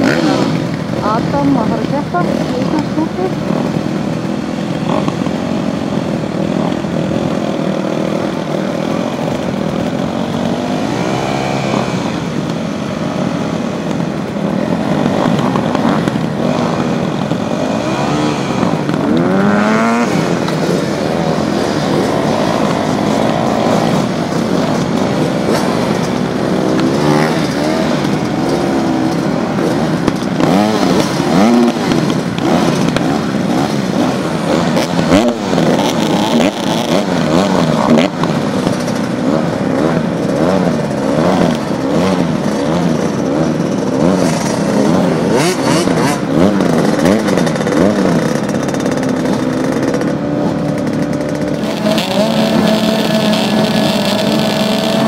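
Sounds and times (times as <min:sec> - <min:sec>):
motocross engines idling and revving: 0:00.0 - 0:55.0.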